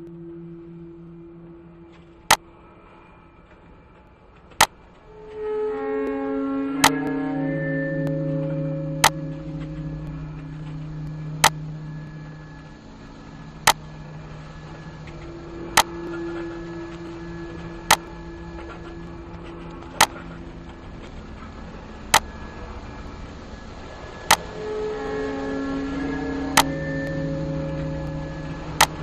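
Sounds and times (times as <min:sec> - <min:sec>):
faint held tones: 0:00.0 - 0:29.0
low steady drone: 0:00.0 - 0:29.0.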